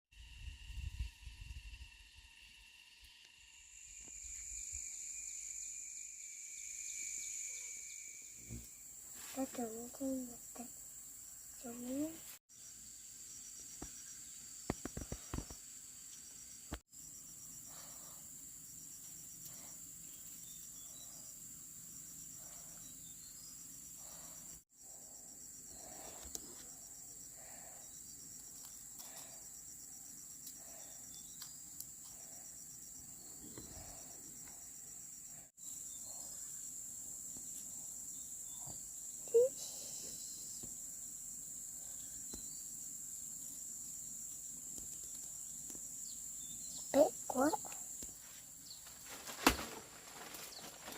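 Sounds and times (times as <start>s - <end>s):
constant high hiss: 0.2s - 50.9s
insects chirping: 0.2s - 50.9s.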